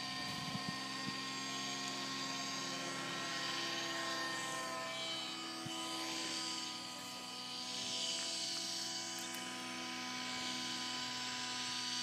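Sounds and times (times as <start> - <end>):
model plane propeller drone: 0.0 - 12.0.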